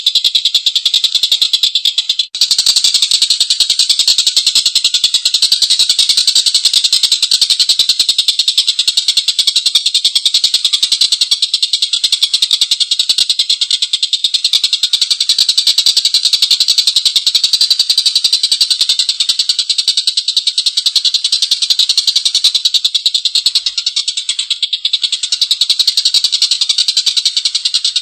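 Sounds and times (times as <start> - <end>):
bird chattering call: 0.0 - 28.0.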